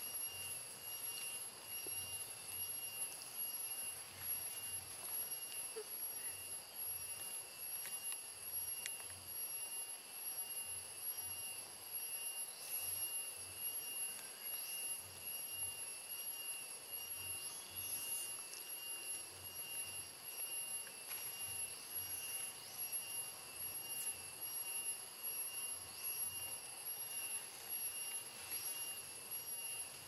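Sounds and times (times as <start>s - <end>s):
faint bird chirps: 0.0s - 9.7s, 12.1s - 30.0s
insects droning: 0.0s - 30.0s.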